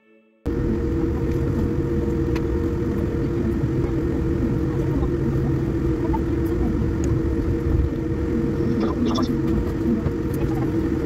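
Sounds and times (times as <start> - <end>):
constant hum: 0.4 - 11.0
airframe rolling on taxiway: 0.5 - 11.0
low engine rumble: 0.5 - 11.0.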